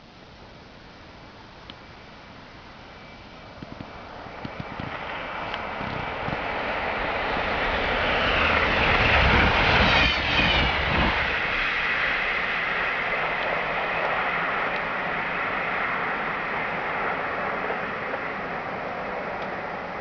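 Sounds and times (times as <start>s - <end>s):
electric train passing at speed: 0.0s - 20.0s.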